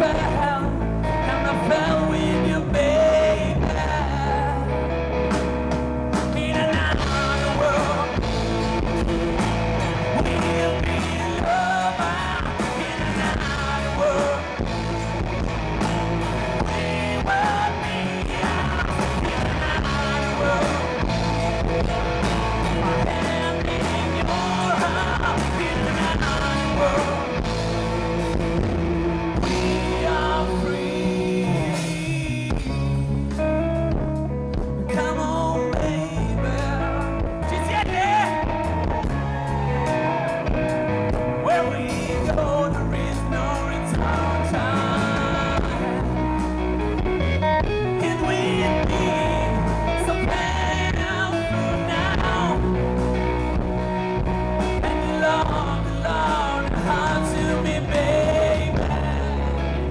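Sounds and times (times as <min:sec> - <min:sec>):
man singing: 0:00.0 - 0:05.5, 0:06.1 - 0:59.9
bass guitar: 0:00.0 - 0:59.9
electric guitar: 0:00.0 - 0:59.9.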